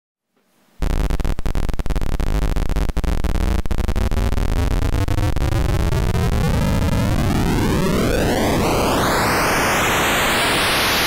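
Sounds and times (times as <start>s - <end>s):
buzzy synthesizer noise hiss: 0.7s - 11.0s.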